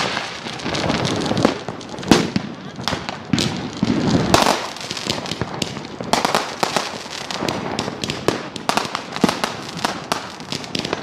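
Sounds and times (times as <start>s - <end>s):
fireworks and firecrackers cracking: 0.0s - 11.0s.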